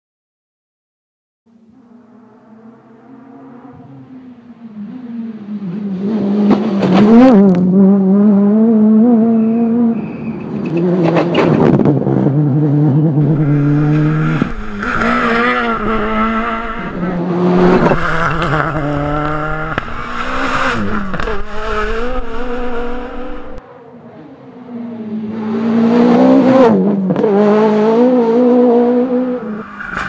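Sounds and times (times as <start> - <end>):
rally car engine at full throttle: 1.5 - 30.0.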